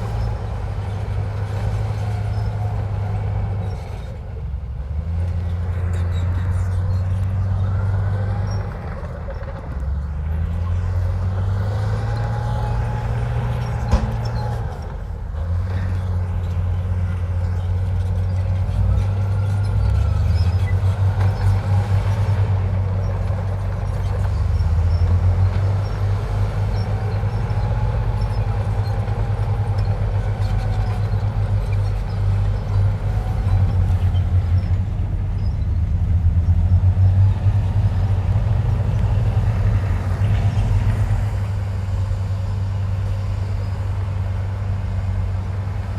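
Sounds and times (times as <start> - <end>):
heavy machine diesel engine: 0.0 - 45.9.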